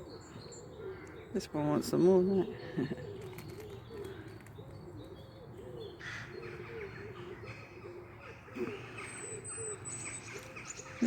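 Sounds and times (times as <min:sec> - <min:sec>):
pigeons cooing: 0:00.0 - 0:11.0
small birds chirping: 0:00.0 - 0:11.0.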